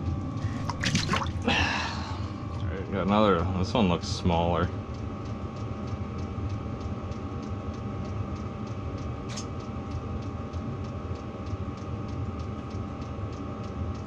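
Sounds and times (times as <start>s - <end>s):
heater humming and ticking: 0.0s - 14.0s.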